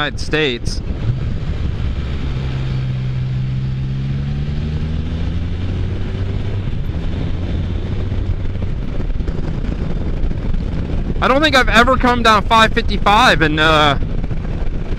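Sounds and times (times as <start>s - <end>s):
three-wheeled motorcycle engine: 0.0s - 14.9s
wind rumble on microphone: 0.0s - 14.9s.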